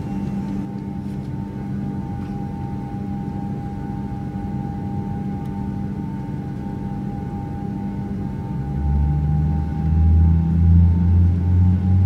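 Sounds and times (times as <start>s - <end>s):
constant low hum: 0.0s - 12.0s
steady high whine: 0.0s - 12.0s.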